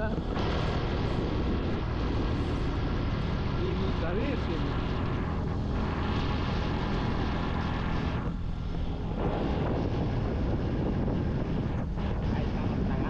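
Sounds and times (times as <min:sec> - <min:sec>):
vehicle engine running: 0:00.0 - 0:13.0
wind and road noise: 0:00.0 - 0:13.0.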